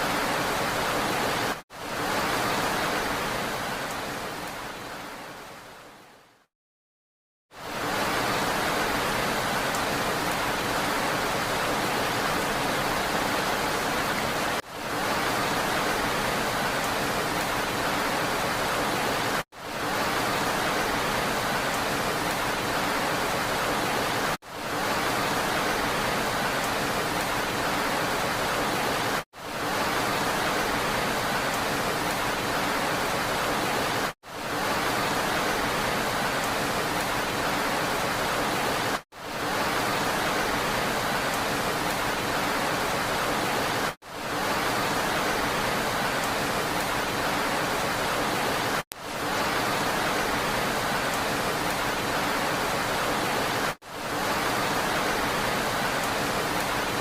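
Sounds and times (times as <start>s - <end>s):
steady rain hiss: 0.0s - 6.5s, 7.5s - 57.0s.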